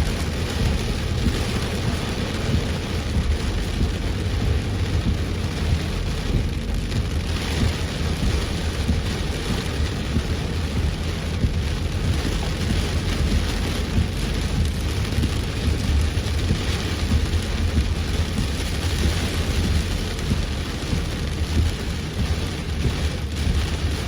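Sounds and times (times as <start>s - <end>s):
constant low rumble: 0.0s - 24.0s
heavy rain on a car: 0.0s - 24.0s.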